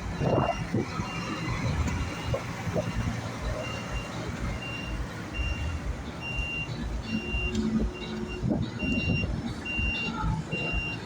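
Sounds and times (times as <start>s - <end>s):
heavy truck engines rumbling: 0.0s - 11.0s
truck reversing alarm beeping: 0.0s - 11.0s.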